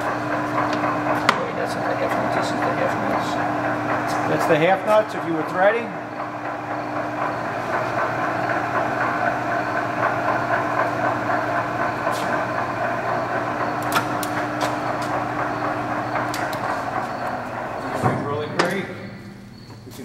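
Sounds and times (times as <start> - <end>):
lathe running with mechanical hum: 0.0 - 20.0.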